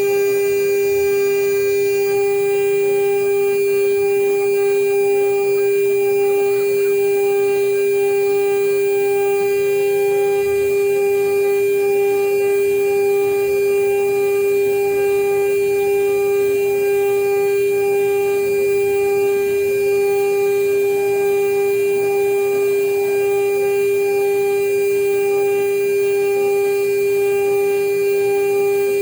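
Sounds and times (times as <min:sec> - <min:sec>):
router spindle high whine: 0:00.0 - 0:29.0.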